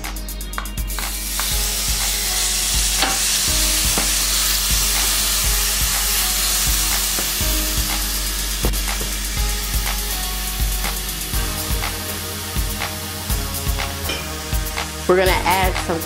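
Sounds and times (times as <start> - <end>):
garlic sizzling in oil: 0.9 - 16.0.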